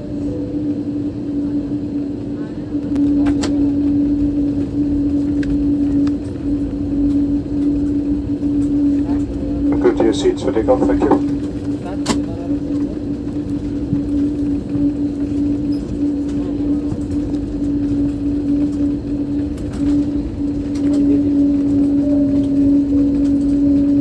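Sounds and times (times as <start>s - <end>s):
higher engine tone: 0.0s - 24.0s
jet engines droning: 0.0s - 24.0s.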